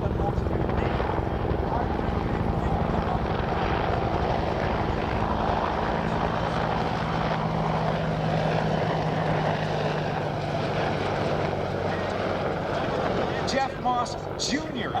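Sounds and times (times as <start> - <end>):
helicopters flying by: 0.0 - 15.0.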